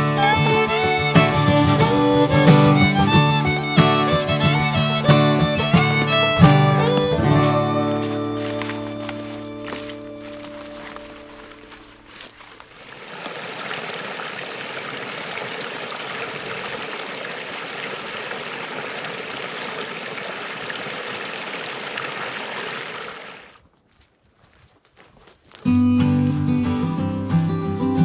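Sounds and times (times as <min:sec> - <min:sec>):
stream water rushing: 0:00.0 - 0:23.6.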